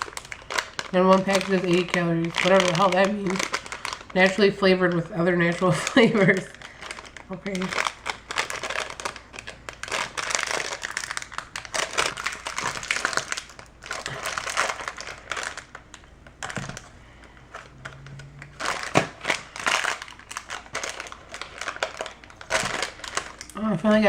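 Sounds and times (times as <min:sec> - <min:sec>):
plastic pouch crinkling: 0:00.0 - 0:24.0.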